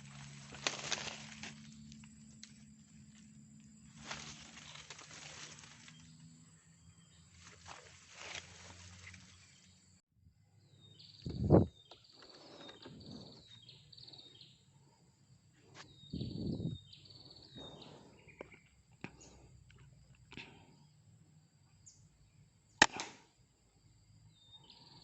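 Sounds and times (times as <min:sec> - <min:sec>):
small birds chirping: 0:00.0 - 0:21.0, 0:24.0 - 0:25.0.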